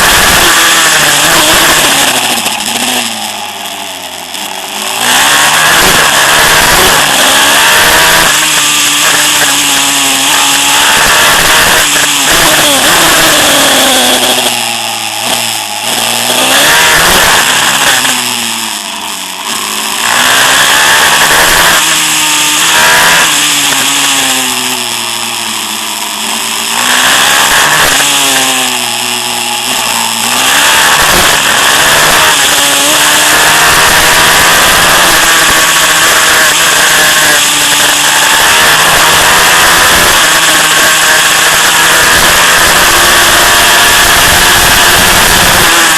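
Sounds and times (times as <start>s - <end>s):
pit bike engine revving: 0.0s - 45.9s.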